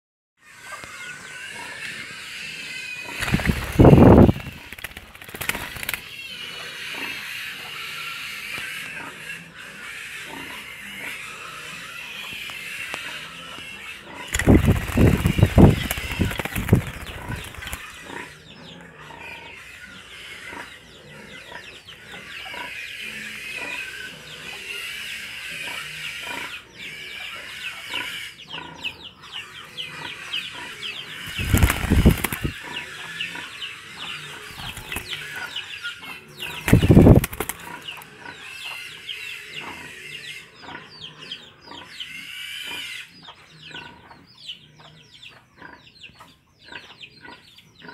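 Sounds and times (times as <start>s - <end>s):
birds chirping: 0.4s - 47.9s.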